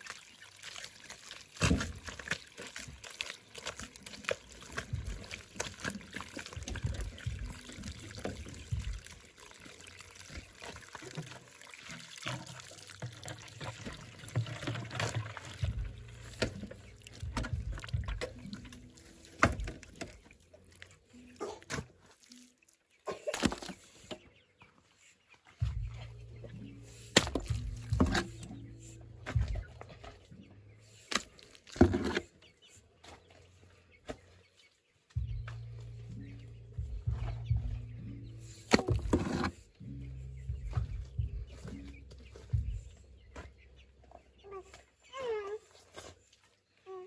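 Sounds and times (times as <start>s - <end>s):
water pouring and sloshing: 0.0s - 47.0s.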